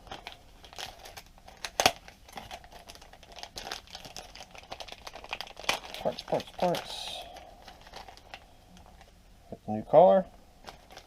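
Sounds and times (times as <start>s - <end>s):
plastic bag crinkling: 0.0s - 9.2s, 10.5s - 11.0s.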